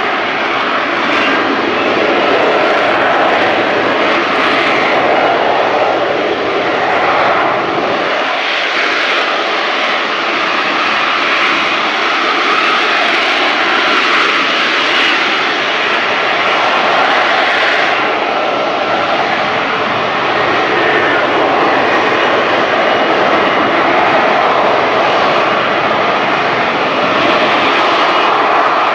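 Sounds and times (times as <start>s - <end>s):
hovering jet engine roar: 0.0s - 28.9s.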